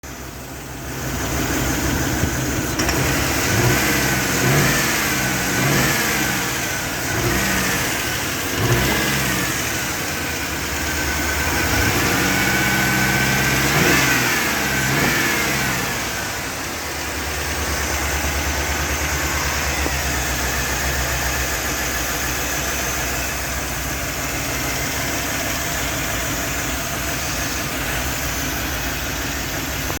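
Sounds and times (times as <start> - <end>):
car engine revving and idling roughly: 0.0 - 30.0.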